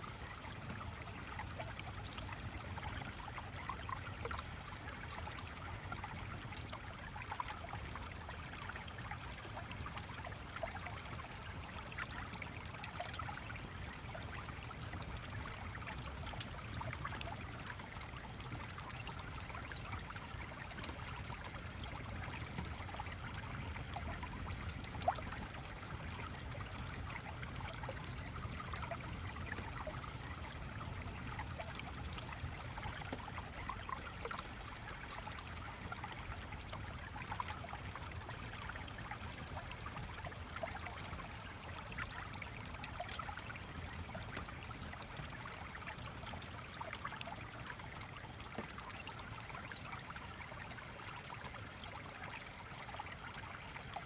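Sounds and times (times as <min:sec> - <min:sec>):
babbling stream: 0:00.0 - 0:54.0.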